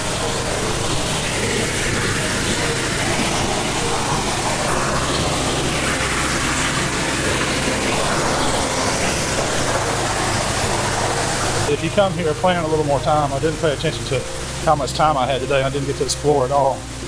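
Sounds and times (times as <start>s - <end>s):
stream and waterfall over rocks: 0.0s - 17.0s.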